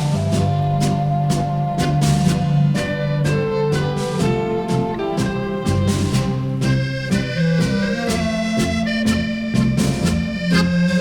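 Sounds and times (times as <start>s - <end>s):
accordion dance-band music: 0.0s - 11.0s.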